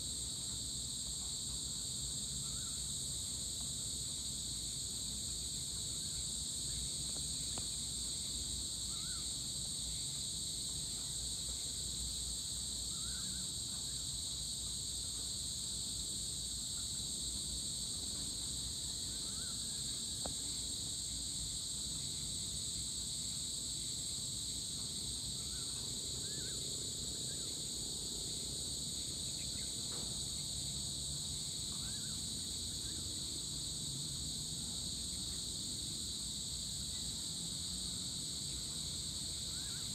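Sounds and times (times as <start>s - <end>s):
crickets and insects chirring: 0.0s - 39.9s.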